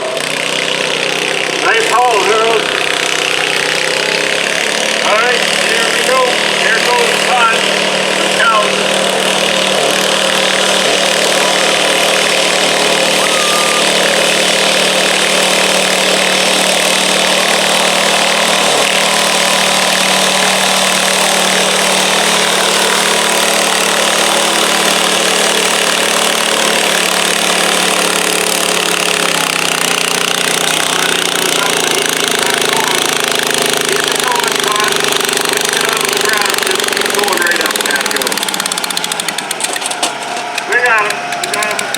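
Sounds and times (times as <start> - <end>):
garden tractor engine running: 0.0 - 41.9.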